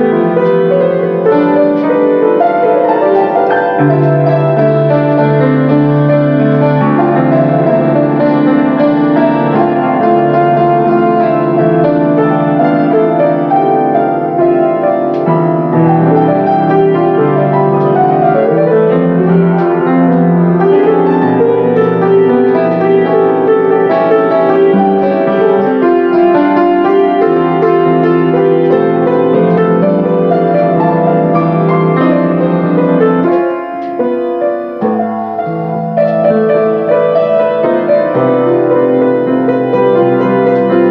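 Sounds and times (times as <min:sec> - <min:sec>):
grand piano playing chords: 0:00.0 - 0:40.9.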